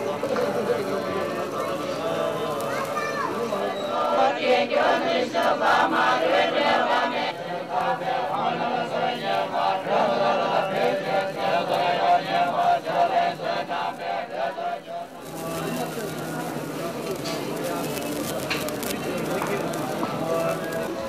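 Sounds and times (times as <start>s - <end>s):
crowd chanting: 0.0s - 21.0s.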